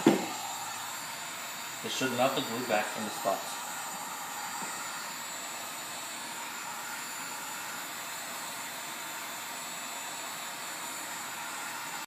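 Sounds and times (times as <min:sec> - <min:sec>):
heat gun blowing hot air: 0:00.0 - 0:12.0.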